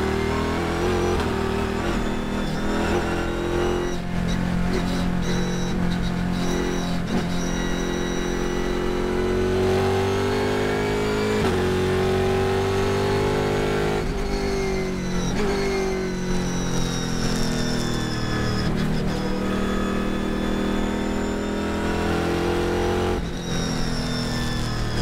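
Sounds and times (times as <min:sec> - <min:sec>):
race car engine at full throttle: 0:00.0 - 0:25.0.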